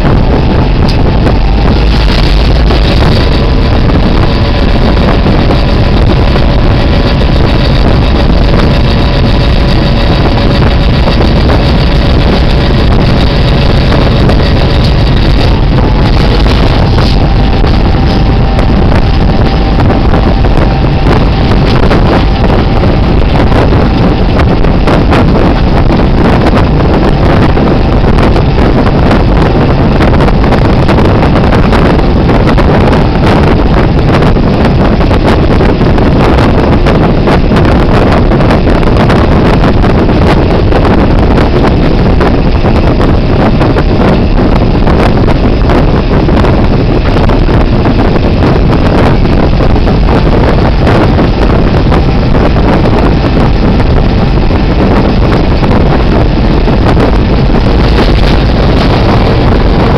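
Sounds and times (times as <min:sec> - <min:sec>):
locomotive rumbling on track: 0:00.0 - 0:59.9
wind buffeting microphone: 0:00.0 - 0:59.9.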